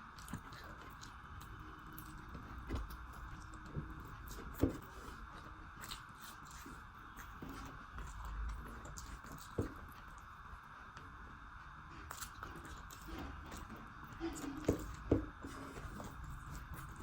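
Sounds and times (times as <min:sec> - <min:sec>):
close chewing and biting: 0:00.0 - 0:11.2, 0:11.9 - 0:17.0.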